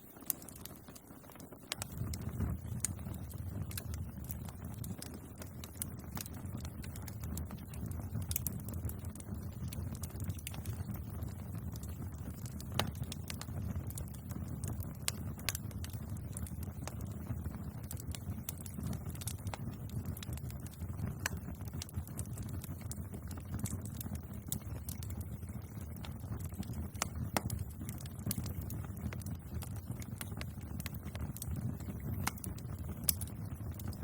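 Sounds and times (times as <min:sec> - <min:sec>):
burning wood crackling and popping: 0:00.0 - 0:34.0
low rumble of flames: 0:00.0 - 0:34.0.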